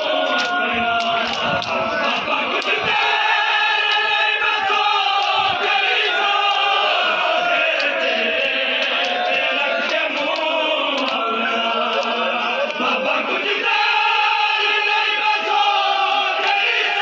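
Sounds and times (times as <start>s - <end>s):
men chanting in chorus: 0.0s - 17.0s.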